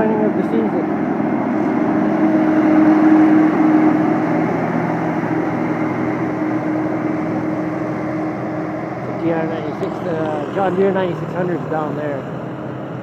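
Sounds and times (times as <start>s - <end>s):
combine harvester drone: 0.0s - 13.0s
steady hum: 0.0s - 13.0s.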